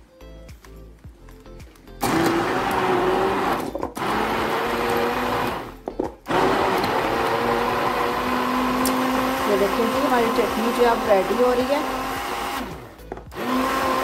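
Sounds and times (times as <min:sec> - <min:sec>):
hand blender motor whirring: 0:02.0 - 0:14.0.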